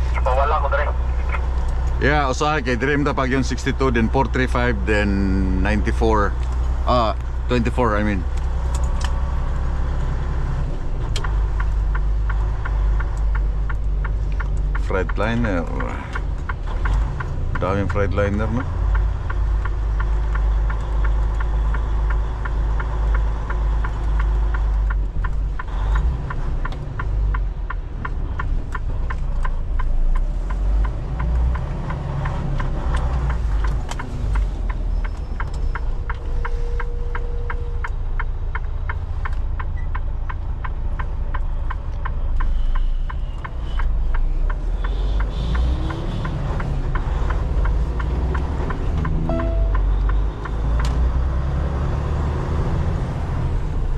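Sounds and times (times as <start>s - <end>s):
road noise inside cab: 0.0s - 53.9s
truck engine rumble: 0.0s - 53.9s.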